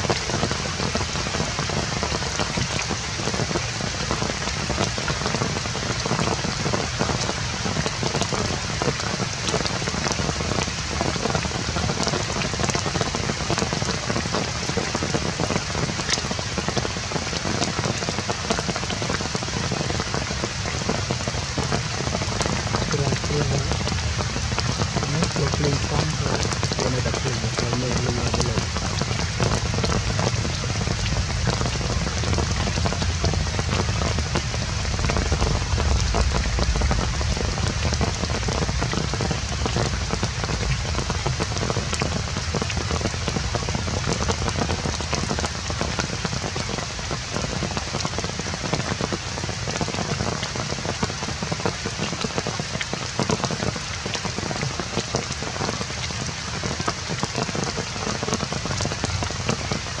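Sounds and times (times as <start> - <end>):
steady rain falling: 0.0 - 60.0.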